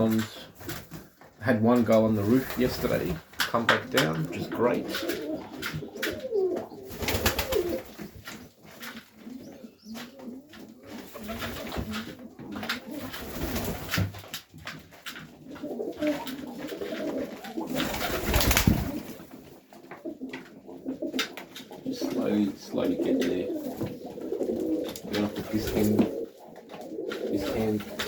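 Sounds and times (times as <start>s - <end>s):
pigeons cooing: 0.0s - 14.0s, 15.1s - 28.0s
clicks and knocks of birds moving: 0.0s - 28.0s.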